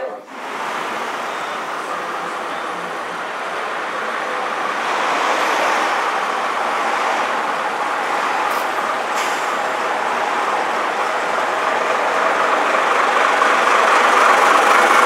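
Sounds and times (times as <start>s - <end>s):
bus driving past: 0.2s - 15.0s.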